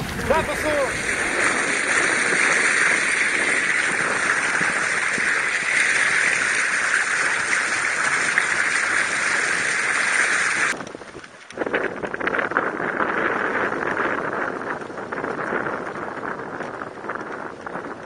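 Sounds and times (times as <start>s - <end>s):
water rushing along boat hull: 0.0s - 18.0s.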